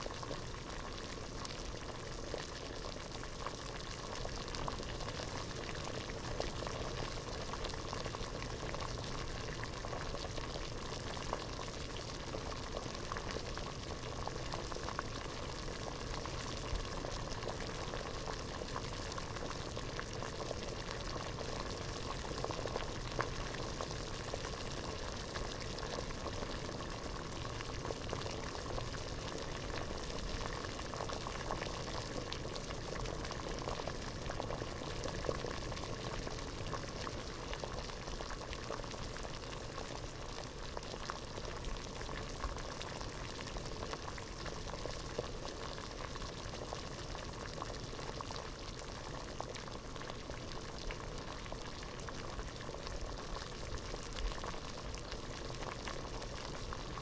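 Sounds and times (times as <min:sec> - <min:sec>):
water boiling in a pot: 0:00.0 - 0:57.0.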